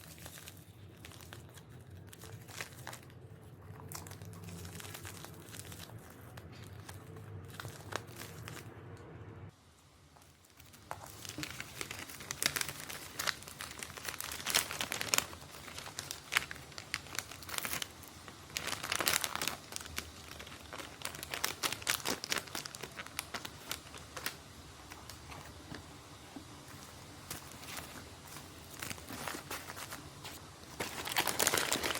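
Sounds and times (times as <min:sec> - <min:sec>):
packaging tearing: 0:00.0 - 0:08.7, 0:10.5 - 0:25.6, 0:27.3 - 0:31.9
packaging crinkling and rustling: 0:00.0 - 0:08.8, 0:10.2 - 0:31.9.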